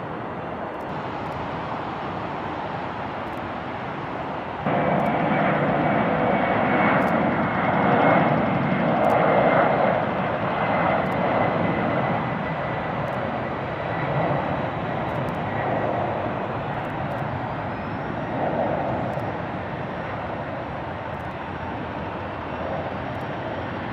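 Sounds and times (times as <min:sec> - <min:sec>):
jet engines running: 0:00.0 - 0:23.9.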